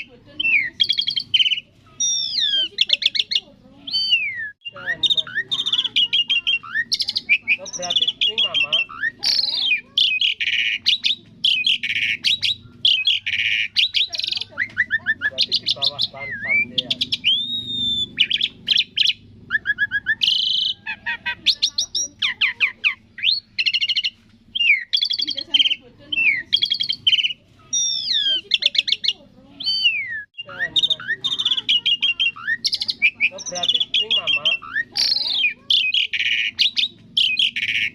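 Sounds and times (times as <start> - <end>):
starling singing: 0.0 - 37.9.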